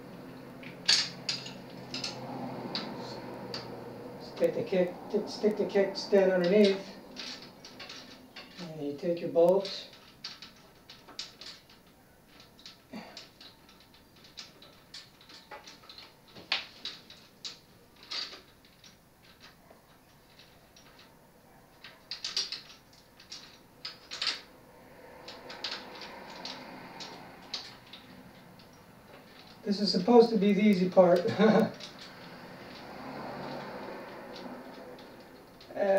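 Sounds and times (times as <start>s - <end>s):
metal clicks and clinks: 0.1s - 35.9s.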